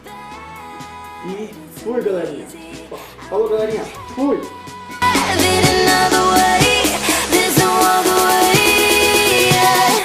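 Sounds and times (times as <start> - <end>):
electronic pop music with vocals: 0.0 - 10.0.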